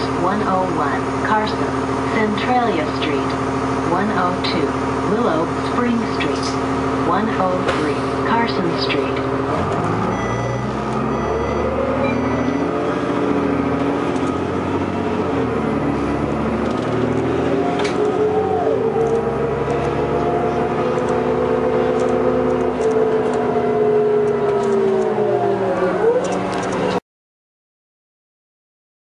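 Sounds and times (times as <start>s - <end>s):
bus diesel engine accelerating: 0.0s - 27.0s.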